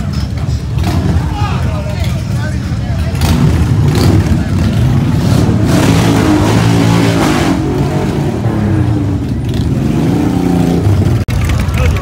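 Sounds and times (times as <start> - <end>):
motorcycle engines revving past: 0.0 - 12.0.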